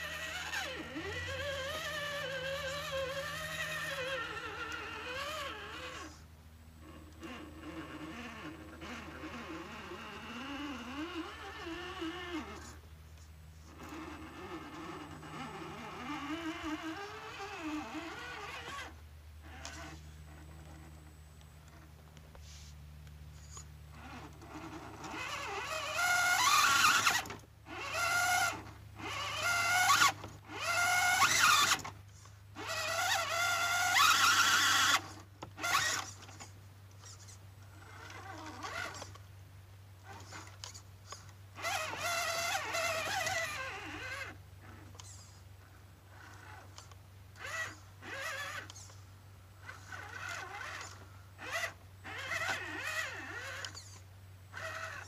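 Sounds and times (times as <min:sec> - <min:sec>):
electric motor whining in bursts: 0:00.0 - 0:55.0.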